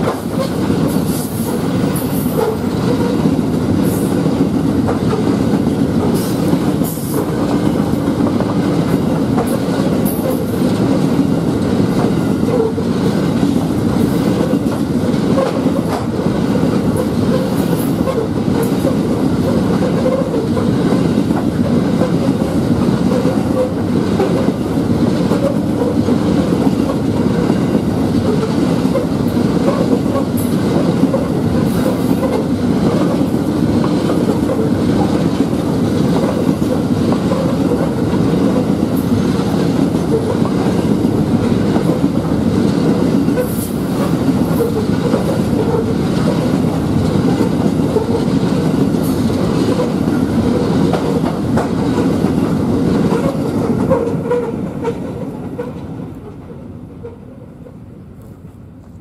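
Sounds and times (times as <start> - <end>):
wagon wheels rumbling on rail: 0.0 - 59.0.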